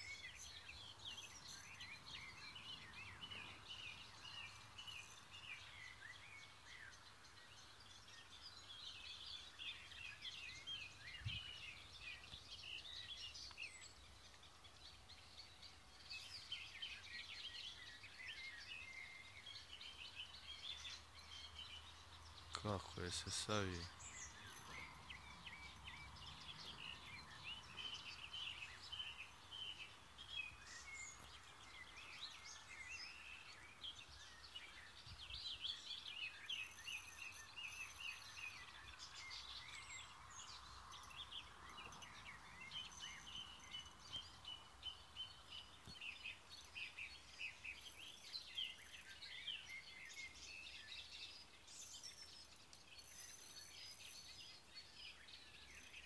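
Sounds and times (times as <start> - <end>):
soft outdoor hiss: 0.0 - 56.0
songbirds chirping: 0.0 - 56.0.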